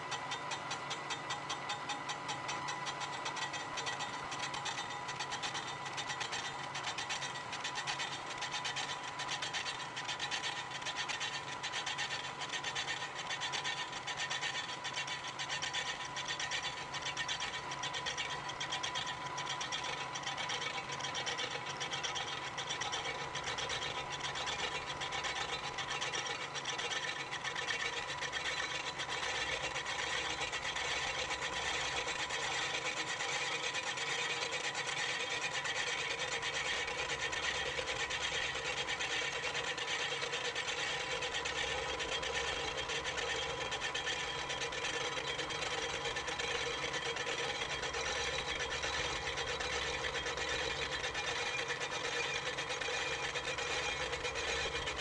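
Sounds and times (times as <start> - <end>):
milling machine rasping chatter: 0.1 - 55.0.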